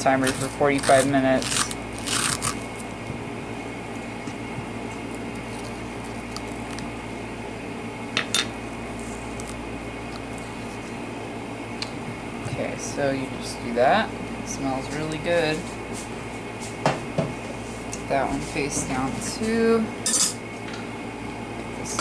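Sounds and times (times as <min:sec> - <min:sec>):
background hum with high whine: 0:00.0 - 0:22.0.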